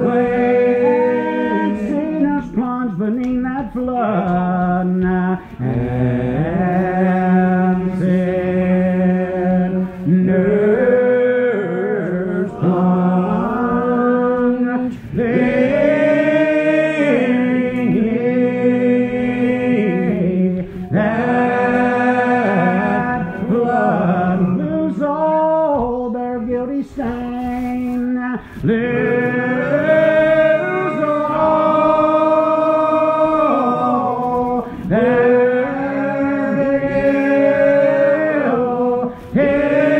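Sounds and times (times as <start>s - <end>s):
congregation singing a hymn: 0.0s - 39.9s.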